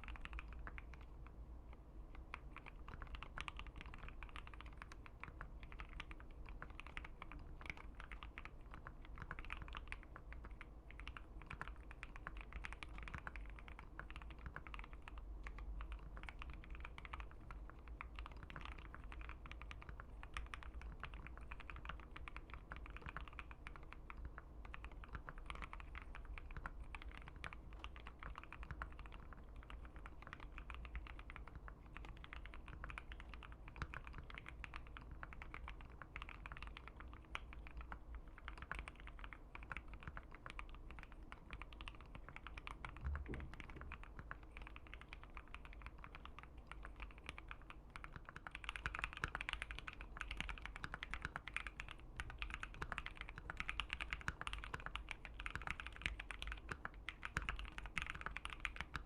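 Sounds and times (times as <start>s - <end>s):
mechanical keyboard typing: 0.0s - 1.3s, 2.1s - 59.0s.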